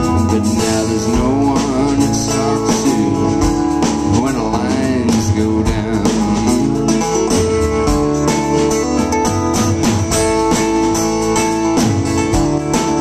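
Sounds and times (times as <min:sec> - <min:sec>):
live band playing guitars: 0:00.0 - 0:13.0.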